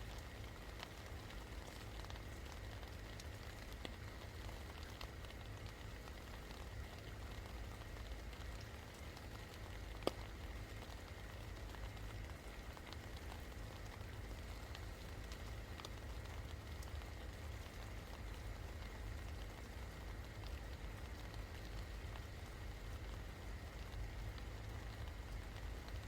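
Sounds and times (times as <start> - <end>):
rain patter: 0.0 - 26.0.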